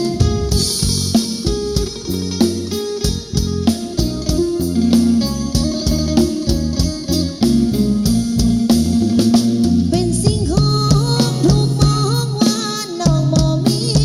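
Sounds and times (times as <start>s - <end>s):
bass: 0.0s - 14.0s
drums: 0.0s - 14.0s
plucked-string lead melody: 0.0s - 14.0s.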